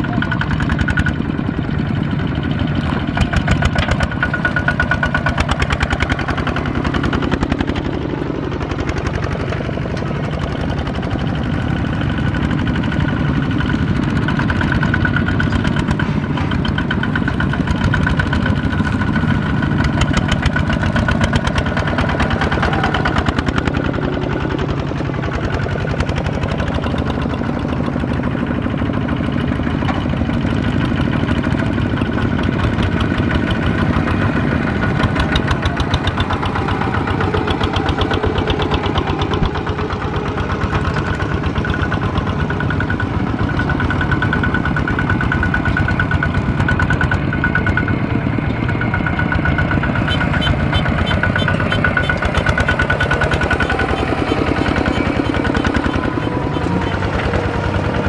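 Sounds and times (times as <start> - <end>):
diesel tractor engine chugging: 0.0 - 58.0.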